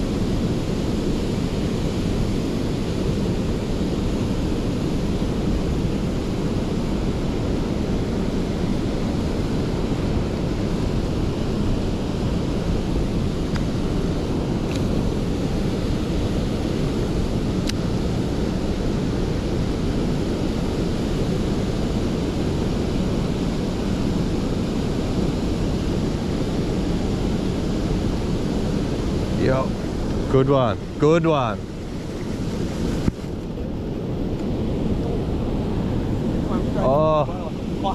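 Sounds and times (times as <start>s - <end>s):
wind rumbling on microphone: 0.0s - 37.9s.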